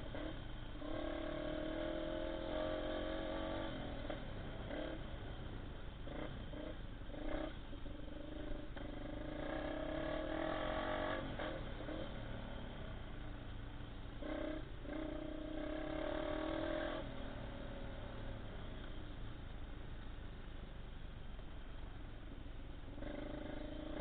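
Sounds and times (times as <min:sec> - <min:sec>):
motorcycle engine under throttle: 0:00.0 - 0:24.0.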